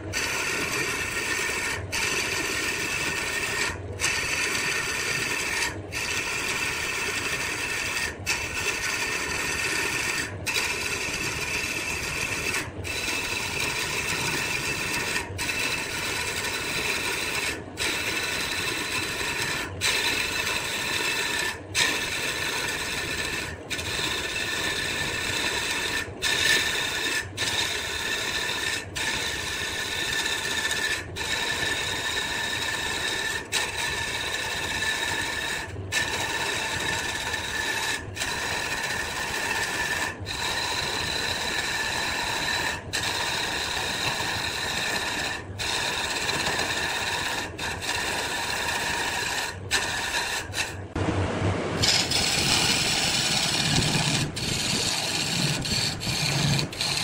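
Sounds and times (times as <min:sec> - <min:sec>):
tool scraping spinning wood: 0:00.0 - 0:51.0, 0:51.6 - 0:57.0
wood lathe running: 0:00.0 - 0:51.0, 0:51.8 - 0:57.0.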